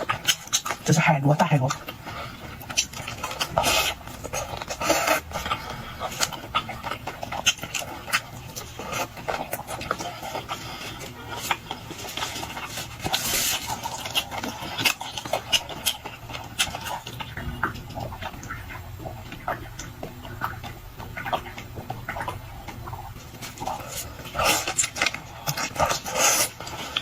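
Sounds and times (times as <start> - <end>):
wet chewing and smacking: 0.0 - 27.0.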